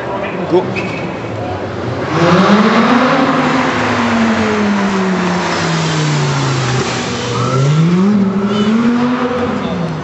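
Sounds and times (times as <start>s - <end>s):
car engine accelerating hard: 1.9s - 10.0s.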